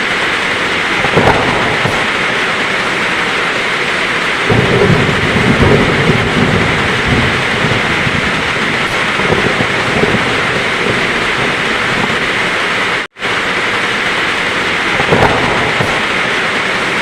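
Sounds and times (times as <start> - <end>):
heavy rain falling: 0.0 - 17.0
thunder rumble: 0.0 - 17.0.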